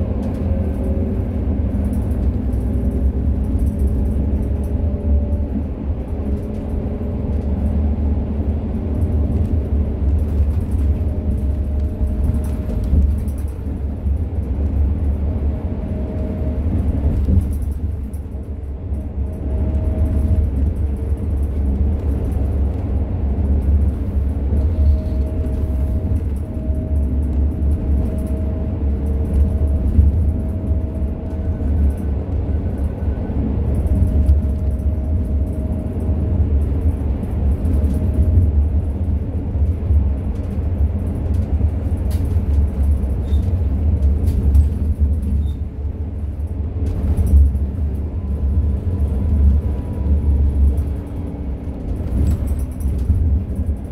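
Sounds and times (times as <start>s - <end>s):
bus engine and road rumble: 0.0s - 53.9s
light clicks and rattles: 0.1s - 53.9s.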